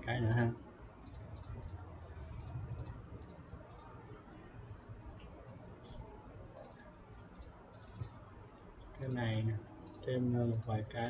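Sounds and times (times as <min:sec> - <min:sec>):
low steady hum: 0:00.0 - 0:11.0
computer mouse clicking: 0:00.1 - 0:04.2, 0:05.0 - 0:08.2, 0:08.8 - 0:11.0.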